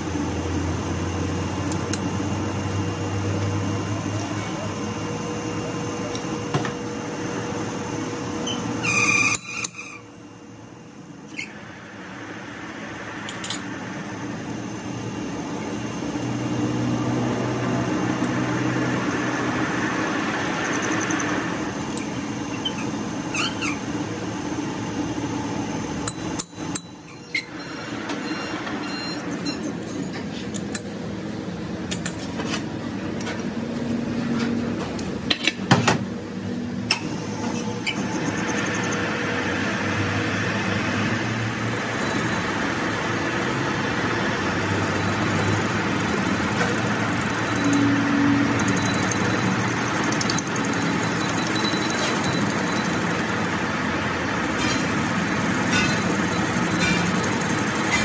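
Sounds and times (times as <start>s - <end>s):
metal lathe running: 0.0s - 30.0s, 37.0s - 58.0s.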